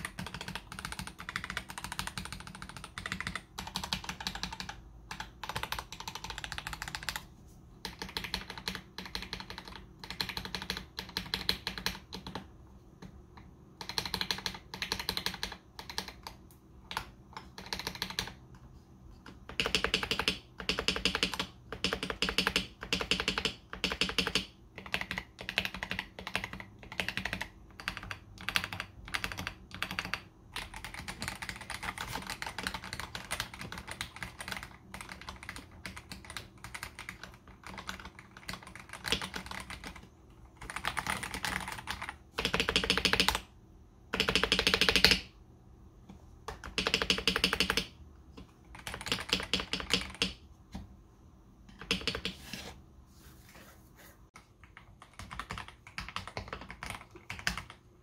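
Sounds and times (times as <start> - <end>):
mechanical keyboard typing: 0.0 - 45.4, 46.4 - 50.5, 51.6 - 52.4, 54.3 - 58.0.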